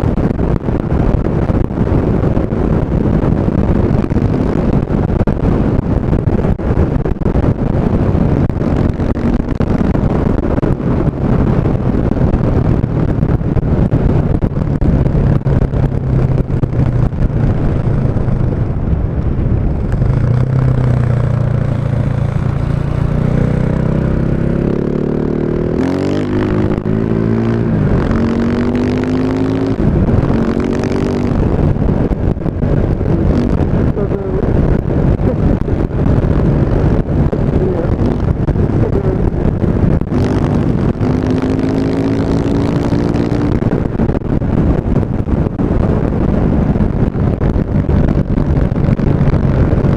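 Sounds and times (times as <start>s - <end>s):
motorcycle engine revving: 0.0s - 19.0s, 19.6s - 49.9s.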